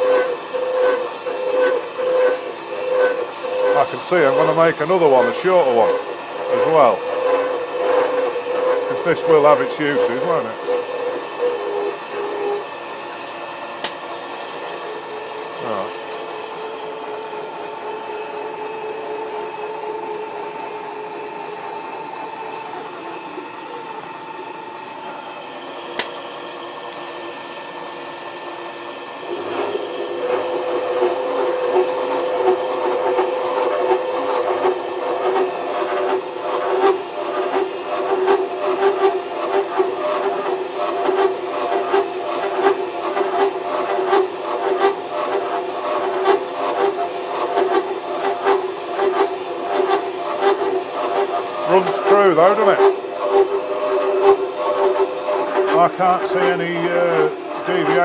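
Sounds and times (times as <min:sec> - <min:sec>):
milling machine hum: 0:00.0 - 0:58.0
saw cutting metal: 0:00.0 - 0:58.0.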